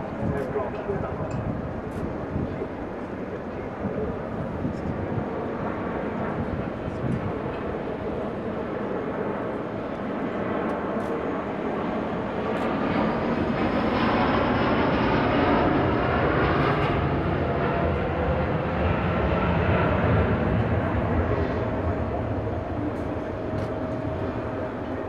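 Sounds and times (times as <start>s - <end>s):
jet engine roar: 0.0s - 25.0s.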